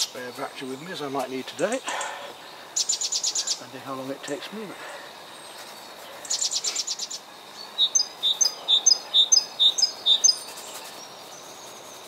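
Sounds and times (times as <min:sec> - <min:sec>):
songbird trill: 0:00.0 - 0:12.0.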